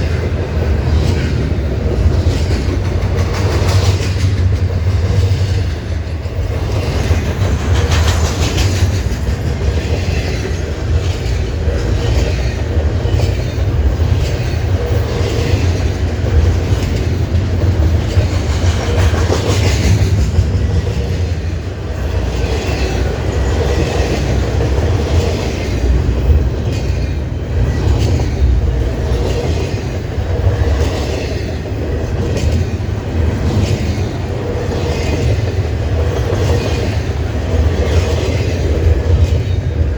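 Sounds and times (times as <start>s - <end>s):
train cars rumbling: 0.0s - 39.9s
wheels clicking over rail joints: 0.0s - 39.9s.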